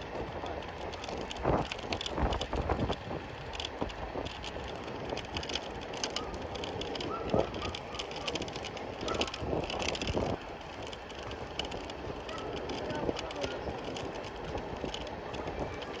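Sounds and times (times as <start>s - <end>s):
scooter knocking and rattling: 0.0s - 16.0s
scooter tyres on asphalt: 0.0s - 16.0s.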